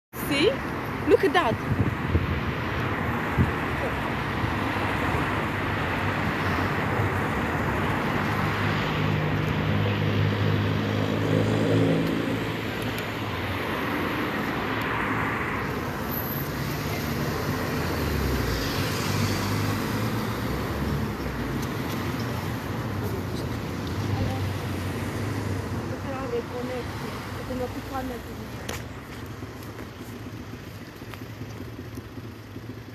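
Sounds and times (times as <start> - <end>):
cars passing: 0.2 - 32.9.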